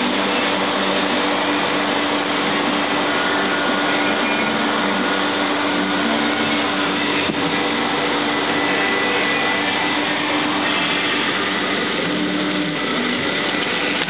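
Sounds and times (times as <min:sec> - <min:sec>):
steady whirring with low hum: 0:00.0 - 0:14.0.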